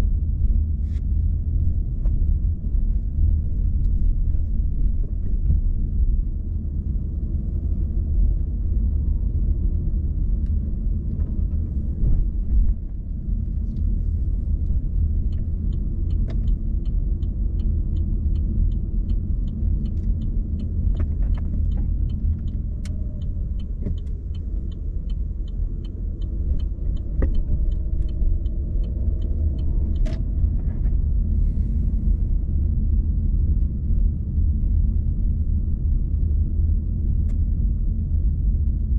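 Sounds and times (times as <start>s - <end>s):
car engine and road rumble: 0.0s - 38.9s
light regular ticking: 2.2s - 38.7s.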